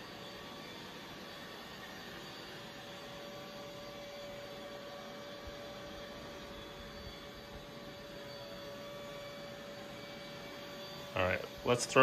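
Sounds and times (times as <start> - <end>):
robot vacuum whirring on carpet: 0.0 - 12.0.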